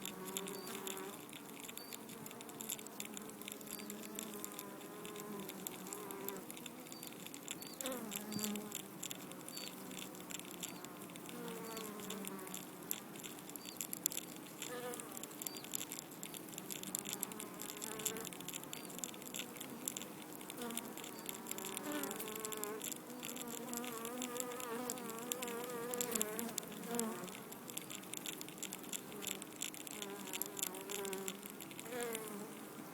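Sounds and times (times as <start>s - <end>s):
honeybees buzzing: 0.0s - 32.9s.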